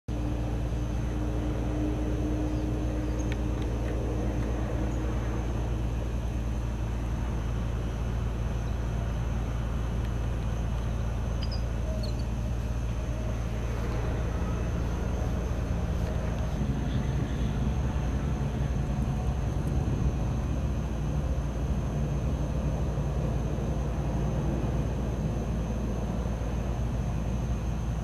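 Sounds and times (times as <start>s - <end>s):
low mechanical hum: 0.0s - 28.0s
faint high whine: 0.1s - 28.0s.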